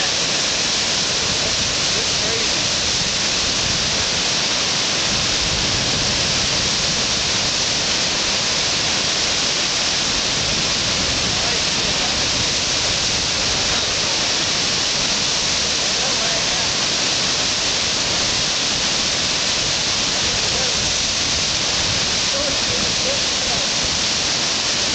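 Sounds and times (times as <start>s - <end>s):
whitewater rapids rushing: 0.0s - 24.9s.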